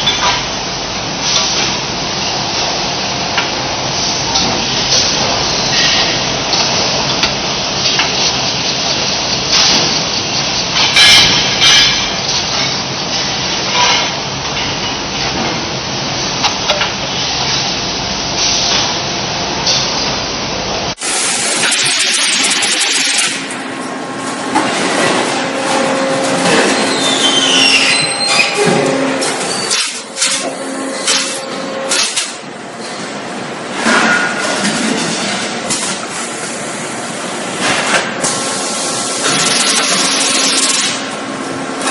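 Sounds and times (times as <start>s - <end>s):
industrial machinery noise: 0.0s - 41.9s.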